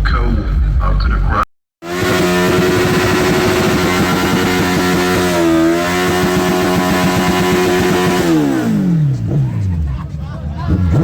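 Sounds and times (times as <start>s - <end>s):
car engine revving: 1.8s - 11.0s.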